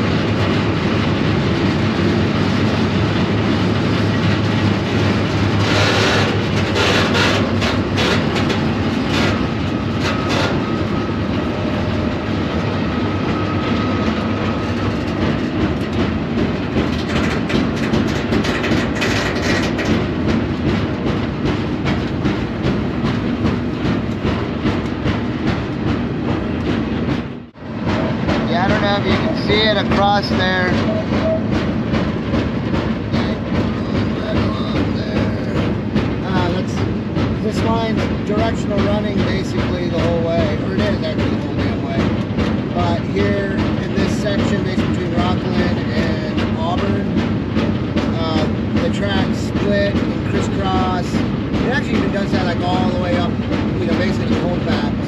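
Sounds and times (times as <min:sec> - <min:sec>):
clatter over rail joints: 0:00.0 - 0:55.0
train wheels rumbling and rattling: 0:00.0 - 0:55.0.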